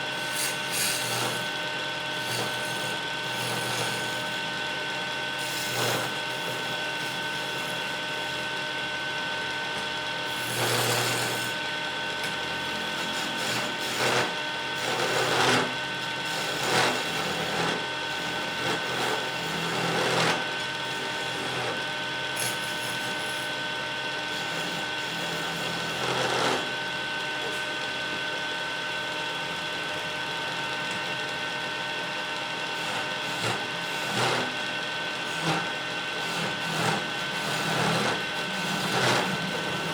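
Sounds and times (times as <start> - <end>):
chisel scraping spinning wood: 0.0 - 8.6, 9.7 - 23.6, 24.3 - 27.8, 32.6 - 39.9
lathe motor hum: 0.0 - 39.9.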